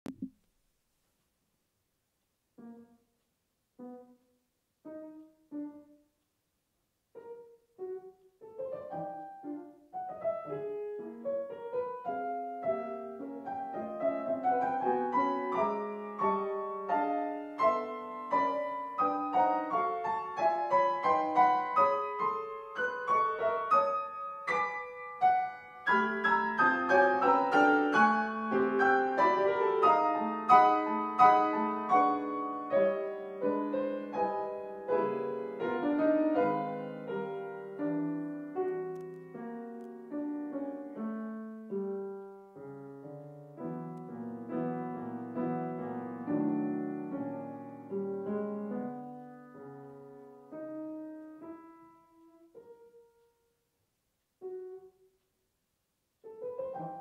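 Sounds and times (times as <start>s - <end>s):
grand piano playing: 7.2s - 53.3s, 56.3s - 57.0s.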